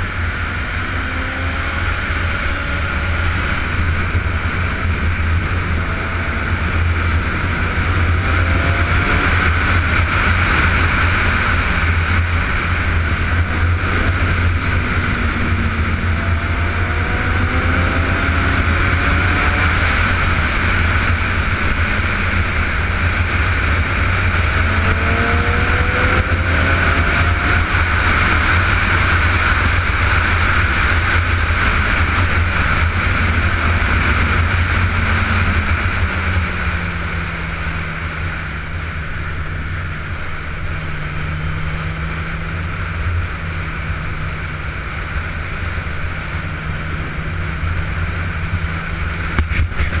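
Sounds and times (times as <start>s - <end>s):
motorcycle engine drone: 0.0s - 50.0s
wind rush: 0.0s - 50.0s.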